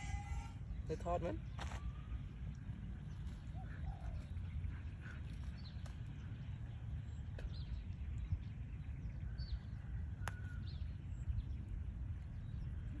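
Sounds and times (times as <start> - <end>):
birds chirping: 0.0 - 13.0
low rumble: 0.0 - 13.0.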